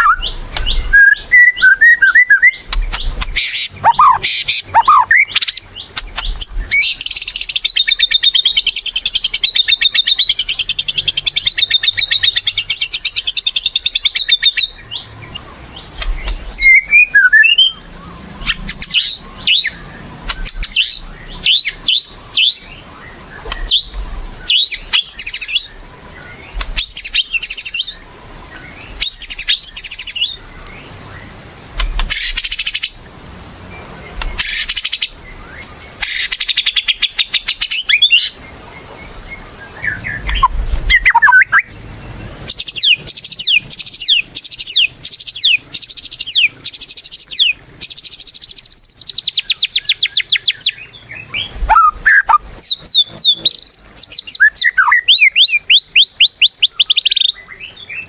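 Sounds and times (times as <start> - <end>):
songbird whistling: 0.0 - 28.0, 28.6 - 33.0, 33.9 - 38.5, 39.4 - 41.8, 42.5 - 58.0.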